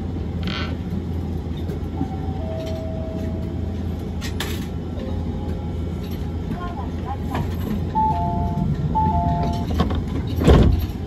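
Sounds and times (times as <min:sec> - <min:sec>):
tram cabin low rumble: 0:00.0 - 0:11.0.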